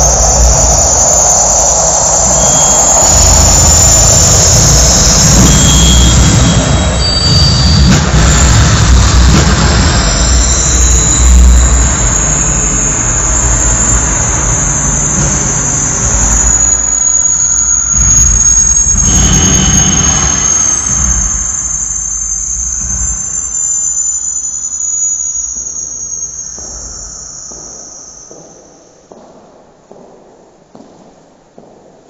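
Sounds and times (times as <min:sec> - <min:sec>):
deep rumble: 0:00.0 - 0:25.8
steady high whistle: 0:00.0 - 0:29.8
dense electronic noise wash: 0:00.0 - 0:32.0.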